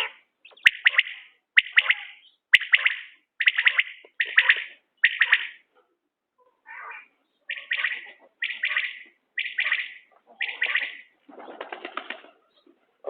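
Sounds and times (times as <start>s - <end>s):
quail calling: 0.0s - 5.7s, 6.4s - 12.9s.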